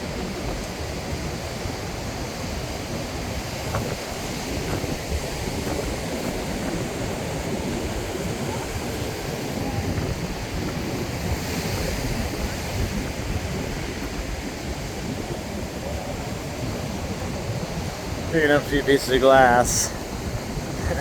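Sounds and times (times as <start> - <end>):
ocean surf: 0.0 - 21.0
wind buffeting microphone: 0.0 - 21.0.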